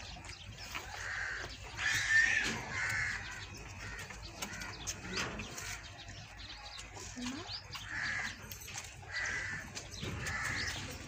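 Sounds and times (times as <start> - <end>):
harsh bird calls: 0.0 - 11.0.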